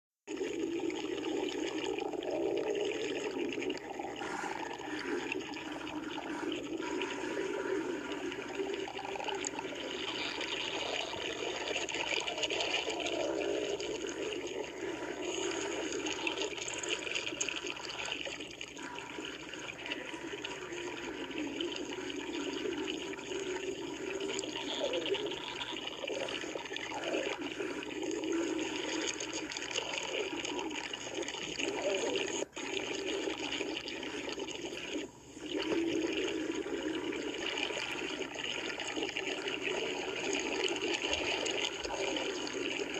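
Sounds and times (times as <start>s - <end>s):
stomach gurgling: 0.3s - 42.9s.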